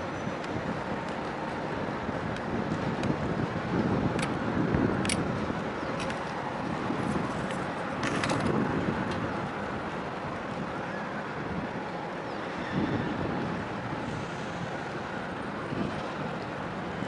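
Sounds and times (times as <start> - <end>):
outdoor rumble: 0.0 - 17.0
wind buffeting microphone: 0.0 - 17.0.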